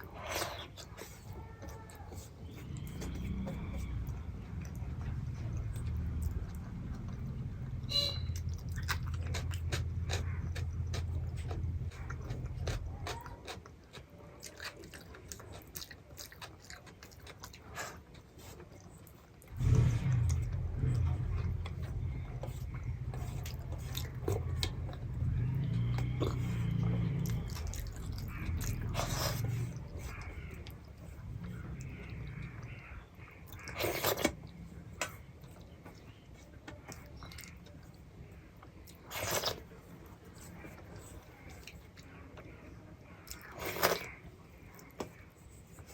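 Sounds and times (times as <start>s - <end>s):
chewing and biting food: 0.0s - 42.6s, 43.2s - 45.9s.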